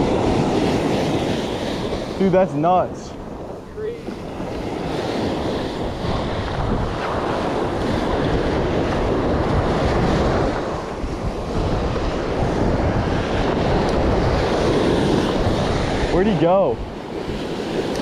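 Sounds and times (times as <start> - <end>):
small waves washing up beach: 0.0 - 18.0
wind buffeting microphone: 0.0 - 18.0.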